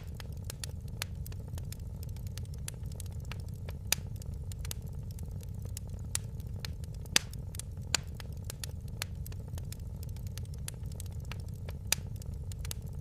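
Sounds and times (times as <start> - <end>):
low rumble of flames: 0.0 - 13.0
wood fire popping and snapping: 0.0 - 13.0.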